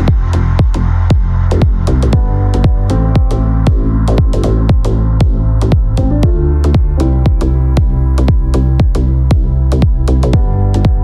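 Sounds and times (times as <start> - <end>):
deep kick drums: 0.0 - 11.0
sustained synth notes: 0.0 - 11.0.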